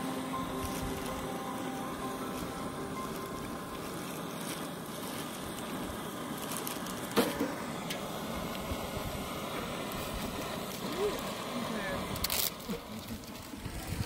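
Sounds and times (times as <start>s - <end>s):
camp stove burner hissing: 0.0s - 14.0s.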